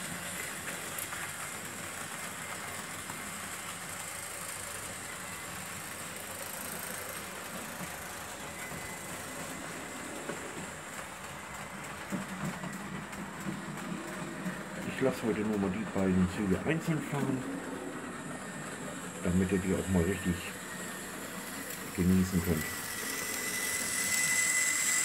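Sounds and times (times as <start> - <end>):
model train whirring and rattling: 0.0 - 25.0.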